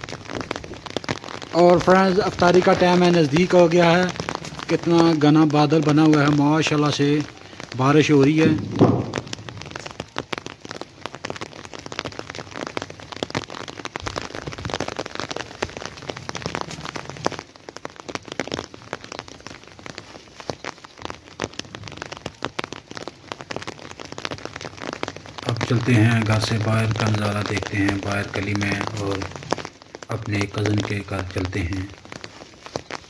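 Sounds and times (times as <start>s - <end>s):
rain drops hitting: 0.0s - 33.0s.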